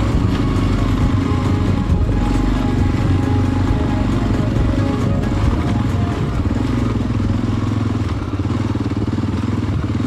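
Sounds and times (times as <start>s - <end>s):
motorcycle engine running under load: 0.0s - 10.0s.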